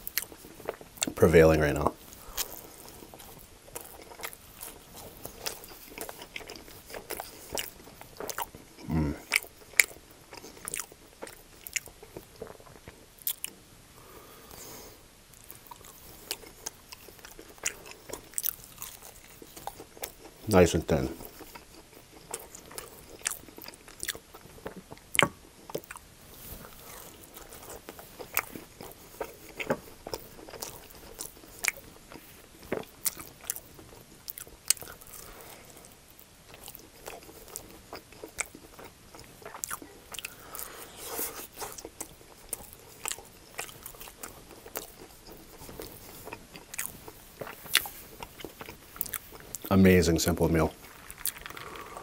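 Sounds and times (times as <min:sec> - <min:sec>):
person chewing crunchy food: 0:00.0 - 0:49.7, 0:50.6 - 0:52.0.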